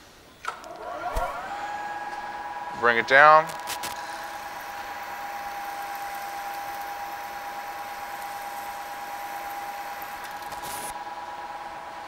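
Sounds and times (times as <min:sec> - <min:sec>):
milling machine spindle whine: 0:00.6 - 0:12.0.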